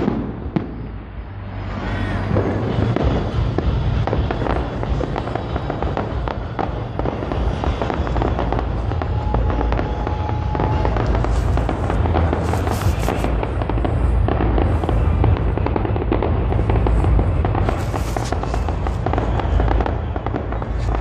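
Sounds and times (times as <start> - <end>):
continuous low rumble: 0.0 - 21.0
fireworks bangs and crackles: 0.0 - 21.0.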